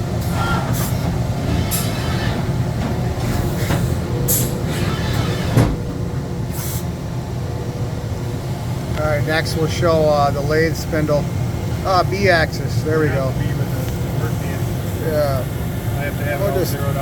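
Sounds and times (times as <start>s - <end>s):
shop machinery rumbling: 0.0s - 17.0s.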